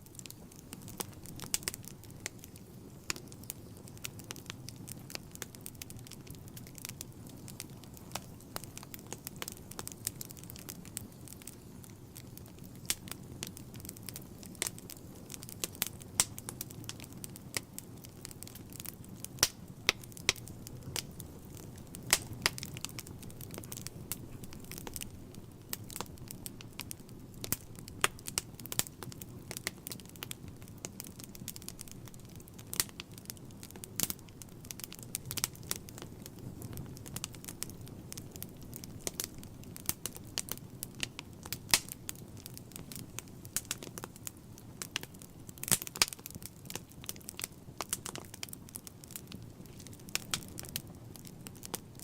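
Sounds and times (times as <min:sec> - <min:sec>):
log fire crackling and popping: 0:00.0 - 0:52.0
low steady flames: 0:00.0 - 0:52.0.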